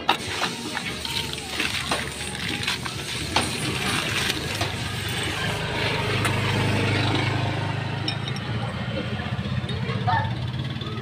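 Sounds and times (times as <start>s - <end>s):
vehicle engine running: 0.1s - 11.0s.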